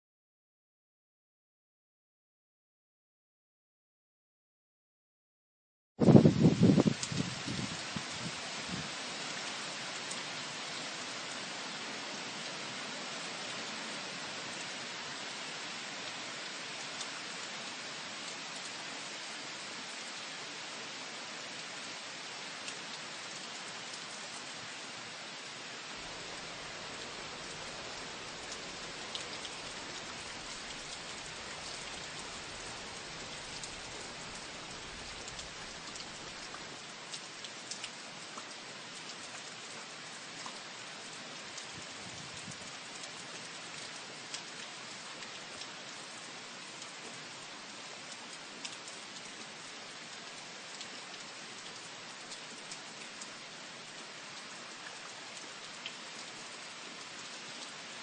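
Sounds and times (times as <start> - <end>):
heavy rain falling: 6.0 - 58.0.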